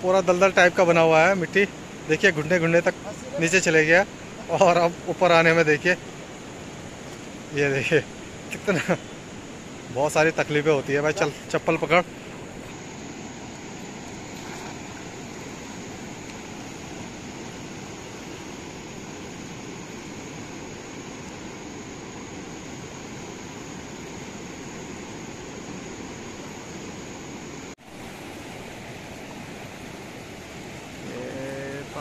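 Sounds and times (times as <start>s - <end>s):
fast-flowing river rushing: 0.0s - 32.0s.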